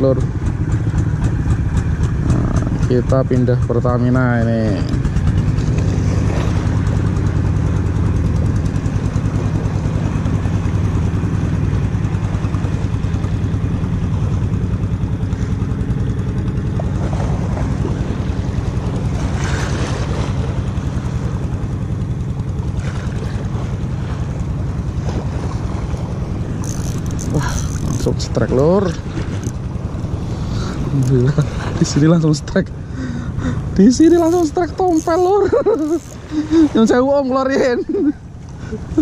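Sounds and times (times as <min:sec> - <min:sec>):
engine droning with fast pulse: 0:00.0 - 0:39.0.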